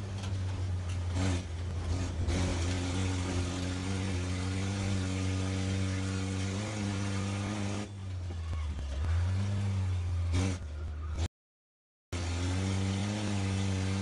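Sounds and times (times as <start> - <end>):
loud car engine revving: 0.0 - 11.3, 12.2 - 14.0.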